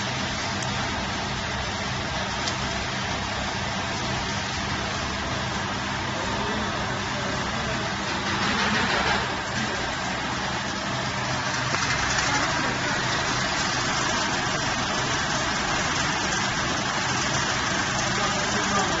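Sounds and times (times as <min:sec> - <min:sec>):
low motor hum: 0:00.0 - 0:19.0
pellet machine mechanical din: 0:00.0 - 0:19.0.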